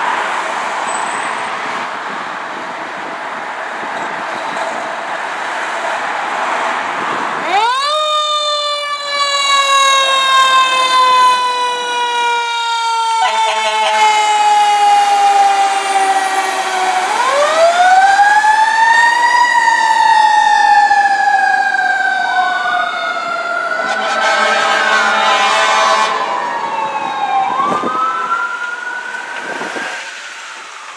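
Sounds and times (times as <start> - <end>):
fire truck siren wailing: 5.5 - 30.9.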